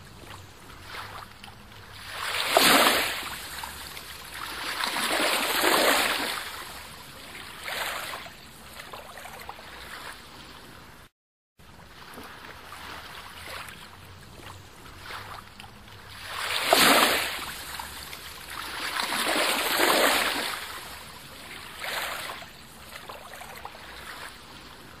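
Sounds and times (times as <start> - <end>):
rushing water like surf: 0.0 - 25.0.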